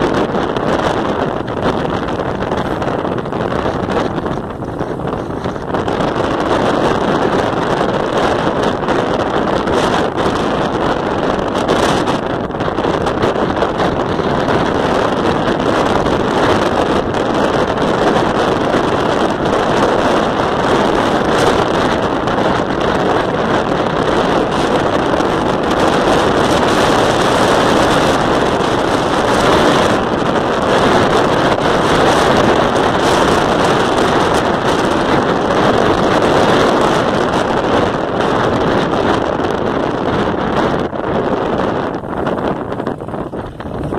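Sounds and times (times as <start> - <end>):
vehicle running with road noise: 0.0 - 43.9
wind rushing over microphone: 0.0 - 43.9.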